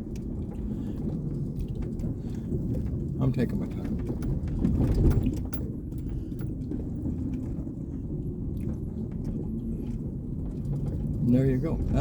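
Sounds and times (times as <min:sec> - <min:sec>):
vehicle engine rumble: 0:00.0 - 0:12.0
vehicle rattles and knocks: 0:00.0 - 0:12.0.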